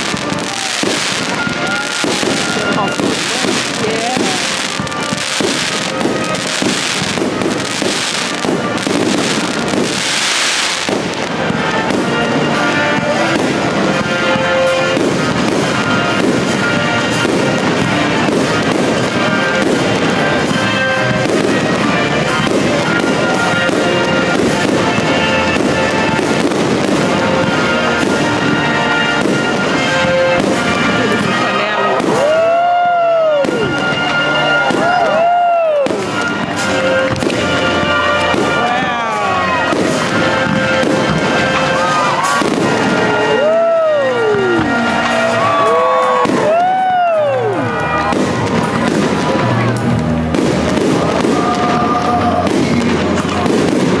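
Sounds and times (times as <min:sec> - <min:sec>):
fireworks bursting and crackling: 0:00.0 - 0:54.0
music: 0:00.0 - 0:54.0.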